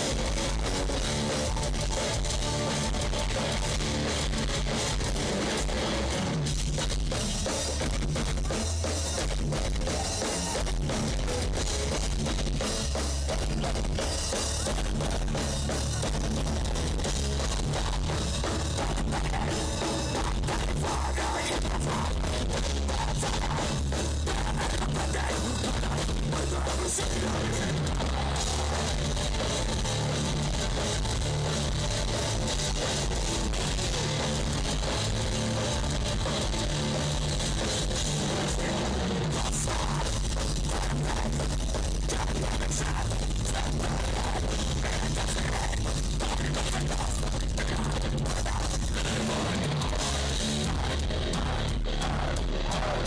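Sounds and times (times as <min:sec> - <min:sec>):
metal band playing live: 0:00.0 - 0:53.0.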